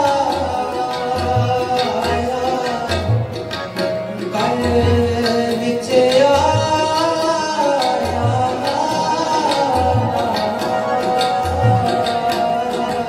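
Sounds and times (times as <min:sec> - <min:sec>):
person singing: 0:00.0 - 0:03.1, 0:04.3 - 0:13.0
harmonium notes: 0:00.0 - 0:13.0
tabla playing: 0:00.0 - 0:13.0.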